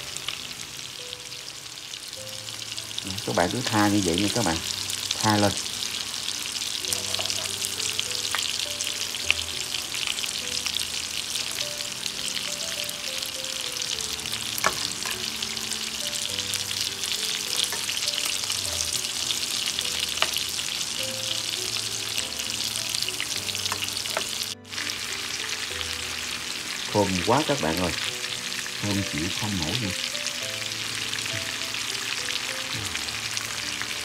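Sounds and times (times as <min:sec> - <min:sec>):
steaks sizzling in a pan: 0:00.0 - 0:34.0.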